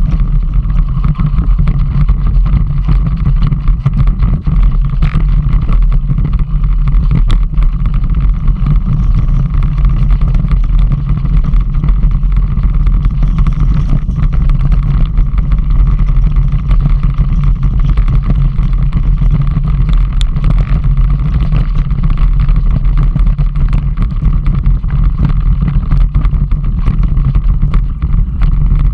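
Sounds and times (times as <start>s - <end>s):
vehicle engine running: 0.0s - 28.9s
wind rumbling on microphone: 0.0s - 28.9s.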